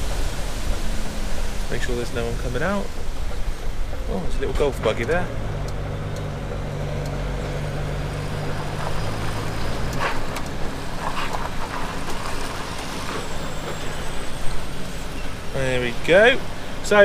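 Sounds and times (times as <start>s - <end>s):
lorry engine humming: 0.0s - 17.0s.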